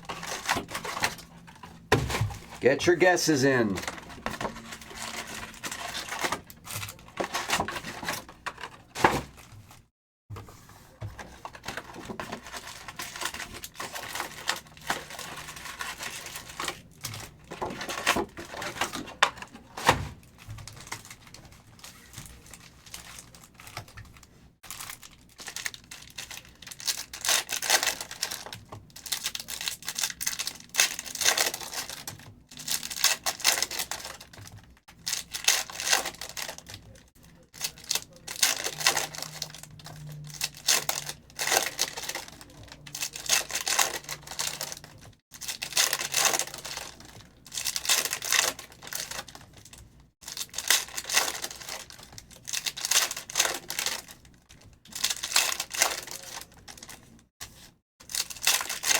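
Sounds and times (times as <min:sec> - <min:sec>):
card packs tearing: 0:00.0 - 0:09.5, 0:11.2 - 0:54.3, 0:54.9 - 0:57.0, 0:58.0 - 0:58.9
foil wrappers crinkling: 0:00.0 - 0:09.8, 0:11.2 - 0:57.2, 0:58.0 - 0:58.9.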